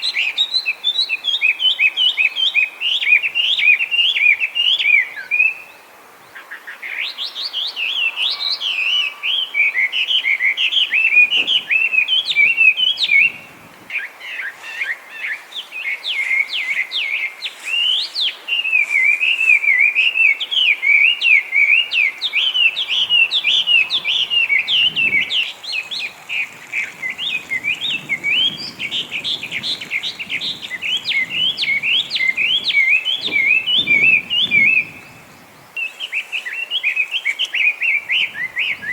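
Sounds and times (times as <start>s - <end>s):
bird singing whistled phrases: 7.0s - 38.9s.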